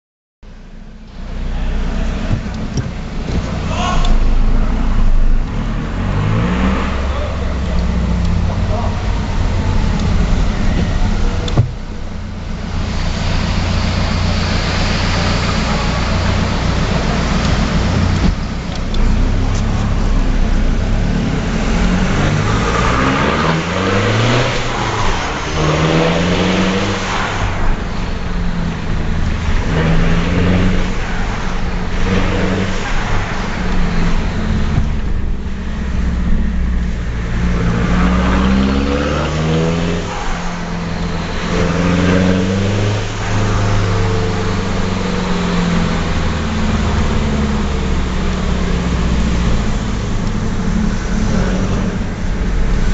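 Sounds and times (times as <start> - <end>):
loud unmuffled diesel engine revving: 1.4 - 52.9.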